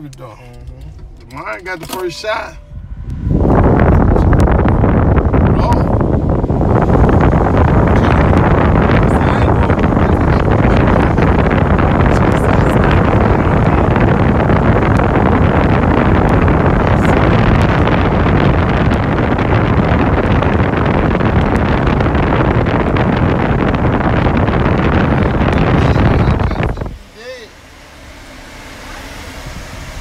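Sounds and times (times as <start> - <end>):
wind and road noise in car: 0.0 - 30.0
wind buffeting microphone: 0.3 - 30.0.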